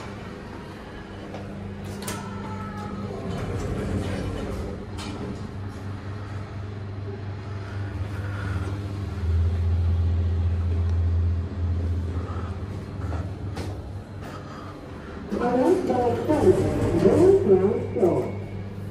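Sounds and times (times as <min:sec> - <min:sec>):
elevator hum: 0:00.0 - 0:18.9.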